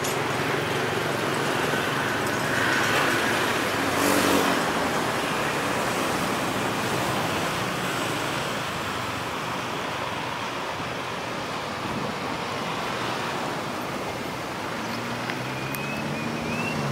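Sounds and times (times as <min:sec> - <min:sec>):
train rumbling along track: 0:00.0 - 0:15.6
steady outdoor hiss: 0:00.0 - 0:16.9.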